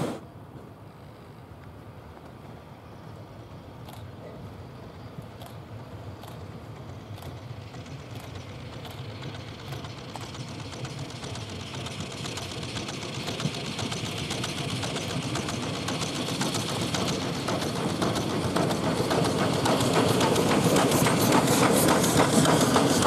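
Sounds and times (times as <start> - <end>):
steam locomotive exhaust chuffs: 0.0 - 23.0.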